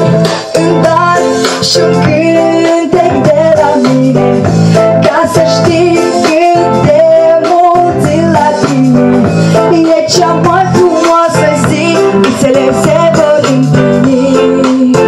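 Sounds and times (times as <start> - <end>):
loud pop music with guitar: 0.0 - 15.0.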